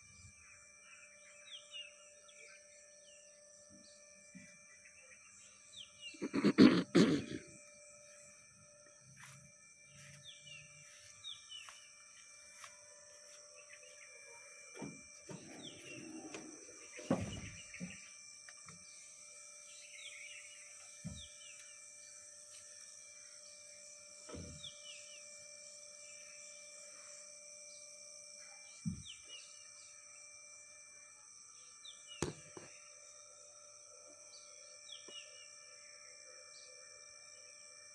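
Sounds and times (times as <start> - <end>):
high insect drone: 0.0 - 37.9.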